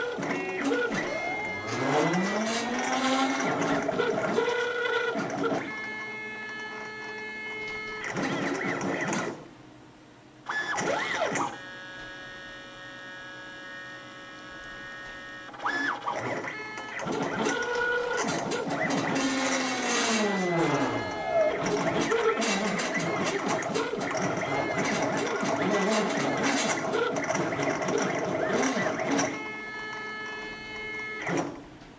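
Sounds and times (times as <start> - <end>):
stepper motors whining: 0.0 - 9.4, 10.5 - 31.7.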